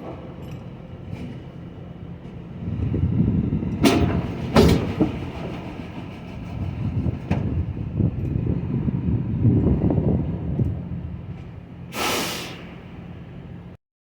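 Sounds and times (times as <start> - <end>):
truck engine rumble: 0.0 - 13.8.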